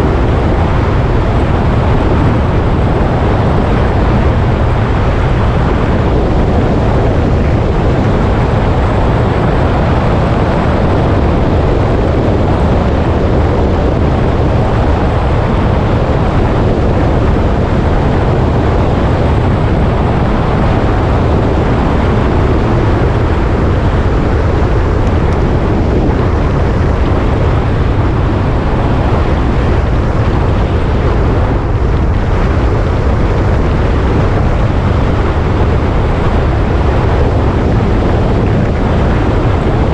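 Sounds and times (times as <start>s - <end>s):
road noise: 0.0s - 39.9s
wind rushing on microphone: 0.0s - 39.9s.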